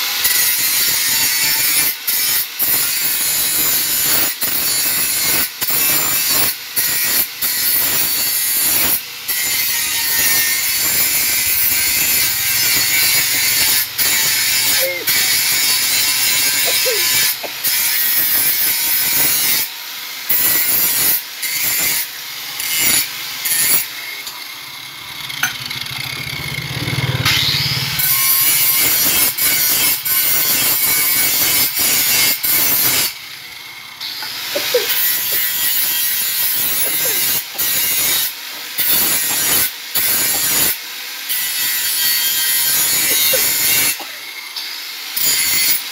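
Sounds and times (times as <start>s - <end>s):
angle grinder grinding steel: 0.0s - 45.9s.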